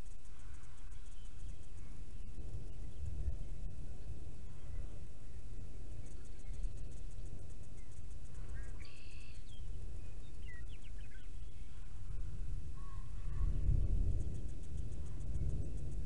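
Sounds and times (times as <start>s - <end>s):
low wind rumble on microphone: 0.0s - 16.0s.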